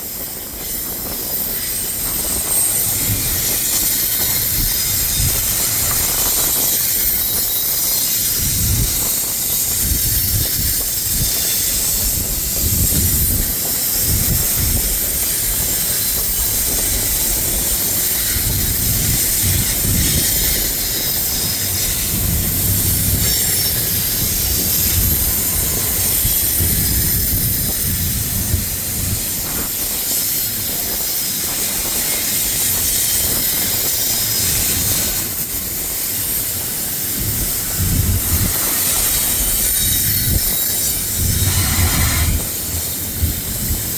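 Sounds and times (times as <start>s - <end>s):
high hiss: 0.0s - 43.9s
train wheels rumbling on rails: 0.0s - 43.9s.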